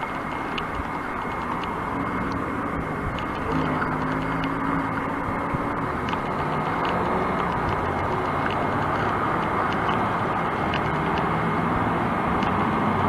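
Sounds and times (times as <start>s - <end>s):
cars driving past: 0.0s - 13.0s
low engine hum: 0.0s - 13.0s.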